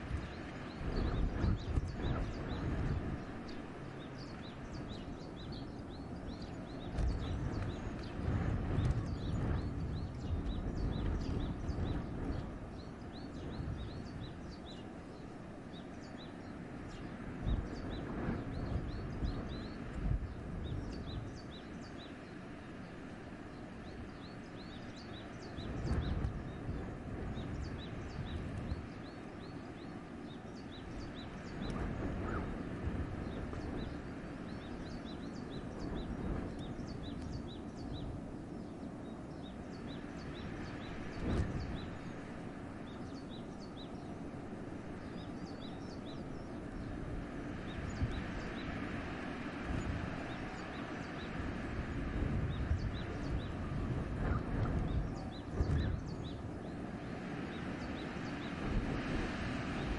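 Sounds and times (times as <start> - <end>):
small birds chirping: 0.0 - 59.9
wind blowing through forest: 0.0 - 59.9.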